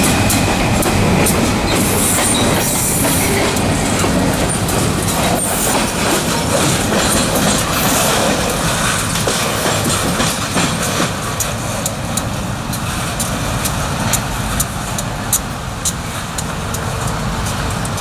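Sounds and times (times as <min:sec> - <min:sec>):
diesel locomotive engine rumble: 0:00.0 - 0:18.0
train wheels clicking over rail joints: 0:00.0 - 0:18.0.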